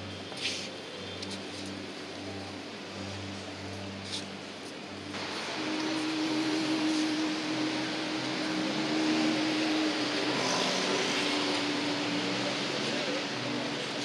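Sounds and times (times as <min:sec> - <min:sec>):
engine humming: 0:00.0 - 0:14.0
street traffic: 0:00.0 - 0:14.0.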